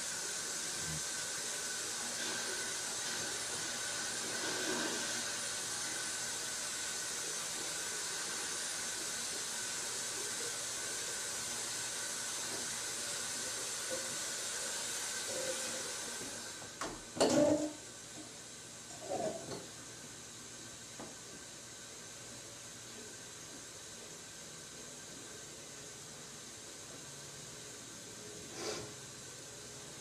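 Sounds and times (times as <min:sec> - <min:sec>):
room noise hiss: 0:00.0 - 0:30.0.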